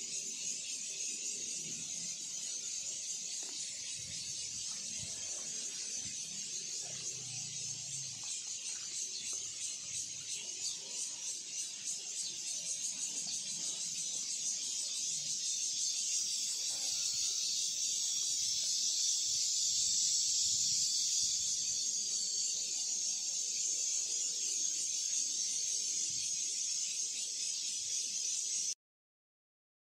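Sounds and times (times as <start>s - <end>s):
high-pitched hiss: 0.0s - 28.8s.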